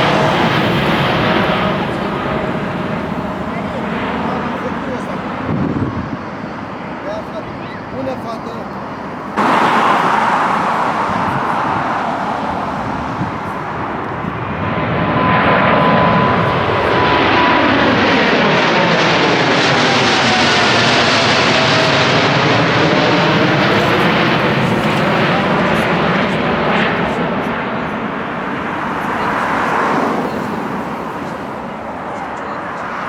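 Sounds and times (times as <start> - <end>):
jet airliner passing overhead: 0.0 - 33.0
jet engine whine: 0.0 - 33.0.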